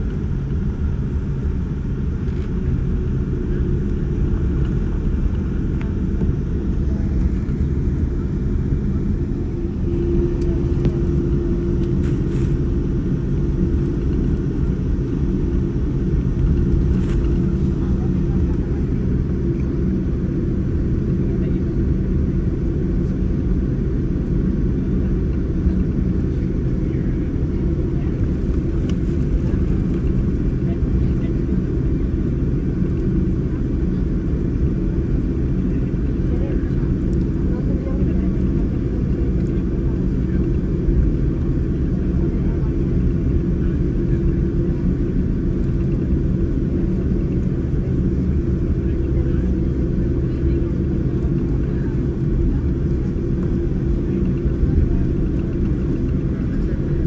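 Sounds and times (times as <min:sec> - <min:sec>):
constant hum: 0:00.0 - 0:57.0
jet engines rumbling in cabin: 0:00.0 - 0:57.0.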